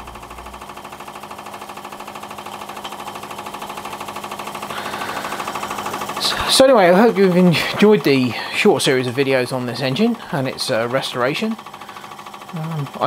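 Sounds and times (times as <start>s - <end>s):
model steam engine running: 0.0s - 13.0s.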